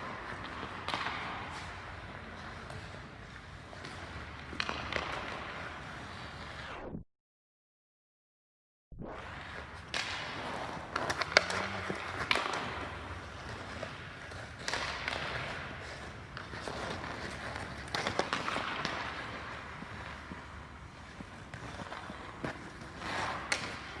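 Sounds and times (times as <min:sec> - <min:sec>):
sticks striking pucks: 0:00.0 - 0:06.1, 0:09.6 - 0:24.0
skates scraping on ice: 0:00.0 - 0:06.8, 0:09.1 - 0:24.0.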